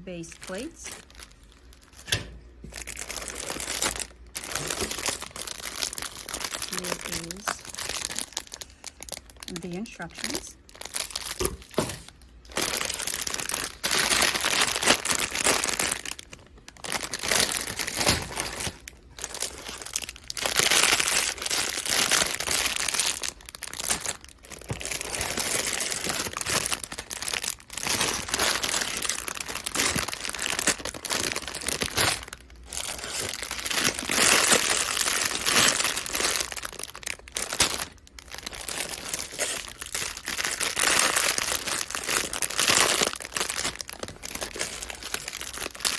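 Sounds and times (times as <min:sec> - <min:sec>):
plastic bags crinkling: 0:00.0 - 0:45.9.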